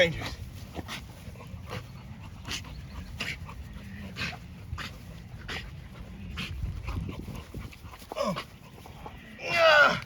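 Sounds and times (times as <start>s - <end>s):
wind rumble on microphone: 0.0s - 9.5s
dog breathing hard: 0.1s - 9.3s.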